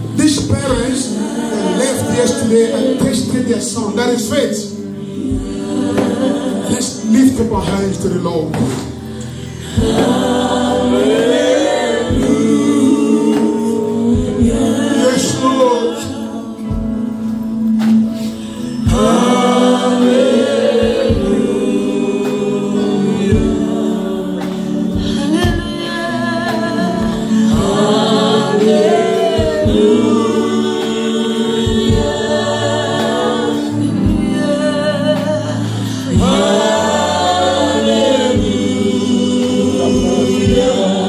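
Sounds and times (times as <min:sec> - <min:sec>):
women singing gospel song: 0:00.0 - 0:41.0.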